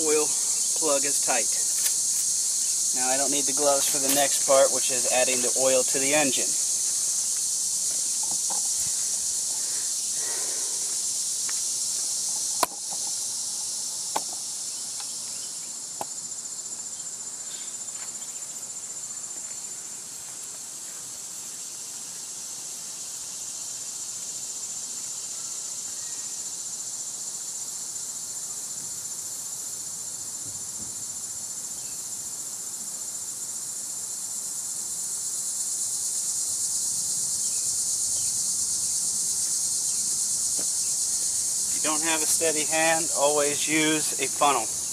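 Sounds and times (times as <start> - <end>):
insects droning in chorus: 0.0 - 44.9.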